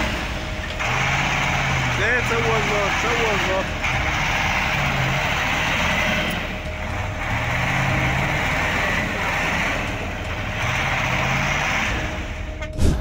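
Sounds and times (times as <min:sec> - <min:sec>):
diesel truck engines revving: 0:00.0 - 0:13.0.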